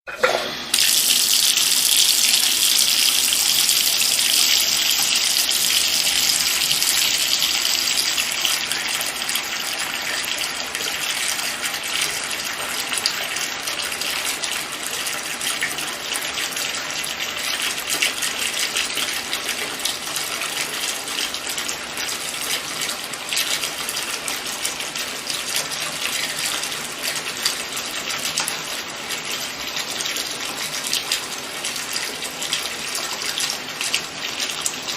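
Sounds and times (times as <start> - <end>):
tap water filling a bathtub: 0.2 - 34.9.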